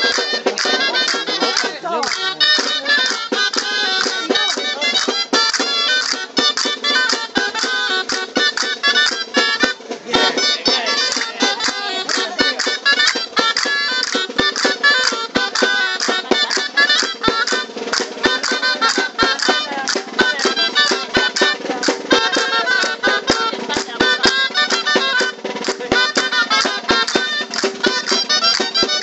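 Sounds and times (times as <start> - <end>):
reed pipe playing dance tune: 0.0 - 29.0
sharp regular beats: 0.0 - 29.0.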